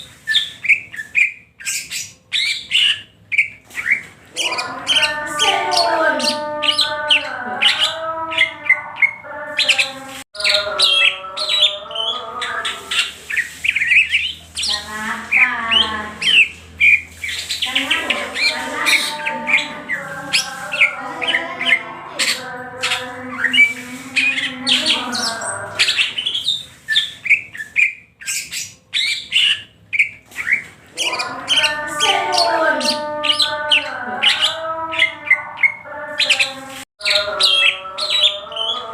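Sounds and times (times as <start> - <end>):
bird singing chirps and trills: 0.3 - 38.9.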